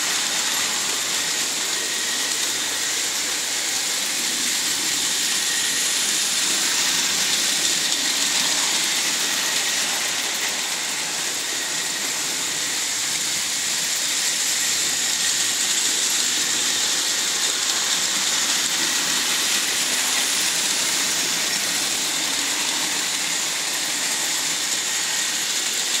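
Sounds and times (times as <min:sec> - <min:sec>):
model trains whirring on track: 0:00.0 - 0:26.0.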